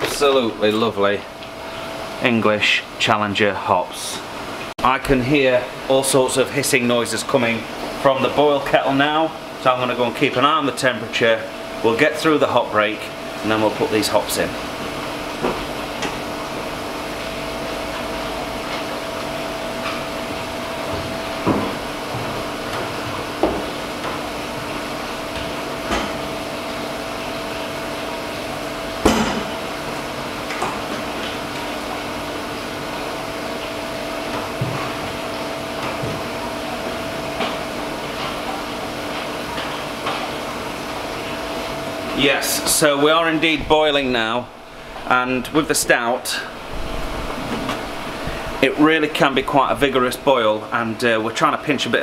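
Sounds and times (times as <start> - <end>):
boil kettle hum and hiss: 0.0 - 52.0.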